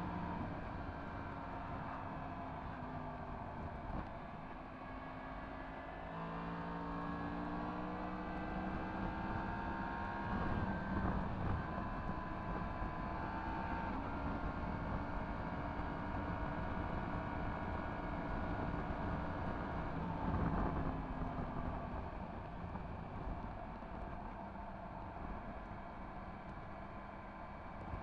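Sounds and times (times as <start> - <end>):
wind and road noise: 0.0 - 28.0.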